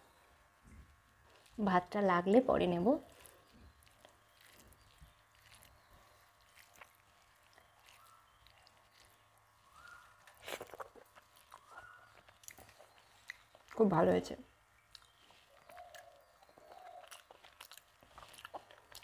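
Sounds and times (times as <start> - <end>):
fingers squishing rice: 2.6 - 14.0, 14.9 - 19.0.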